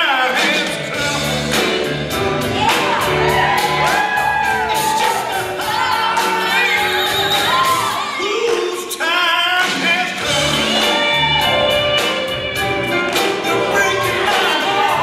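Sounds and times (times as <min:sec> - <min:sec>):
blues song with band: 0:00.0 - 0:15.0.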